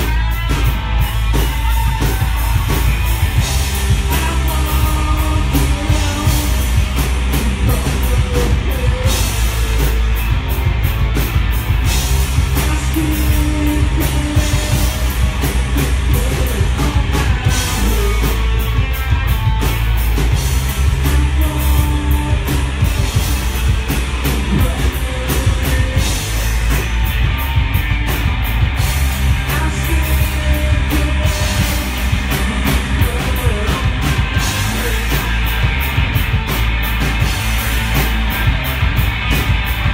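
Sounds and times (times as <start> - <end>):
heavy bass and drum beat: 0.0 - 39.9
live rock band playing: 0.0 - 39.9.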